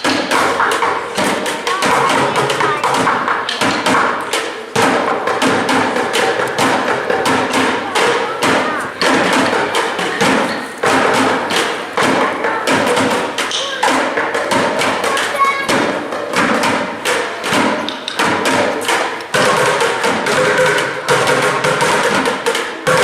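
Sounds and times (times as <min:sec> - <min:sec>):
music: 0:00.0 - 0:23.0
voices: 0:00.0 - 0:23.0.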